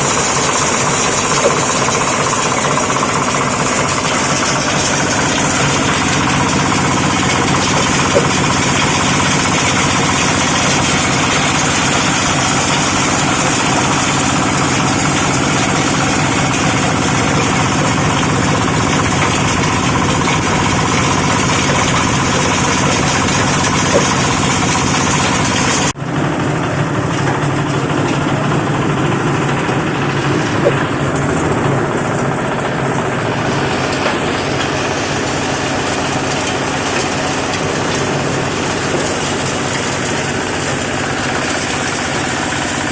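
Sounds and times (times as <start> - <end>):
diesel engine running: 0.0 - 42.9
grinding machine hiss: 0.0 - 42.9.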